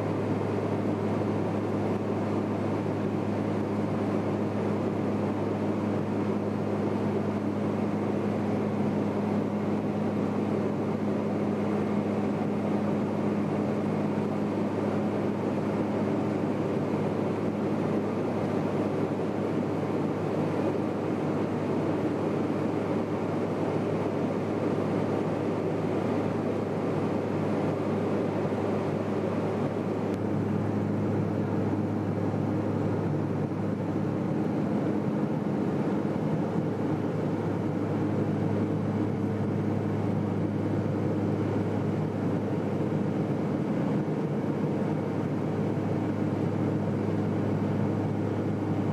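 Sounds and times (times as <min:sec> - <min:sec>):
aircraft engine droning: 0:00.0 - 0:48.9.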